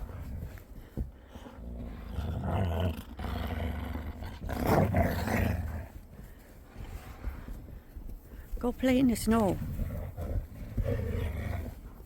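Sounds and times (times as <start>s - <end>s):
dogs growling in play: 0.0s - 7.5s, 9.6s - 12.0s.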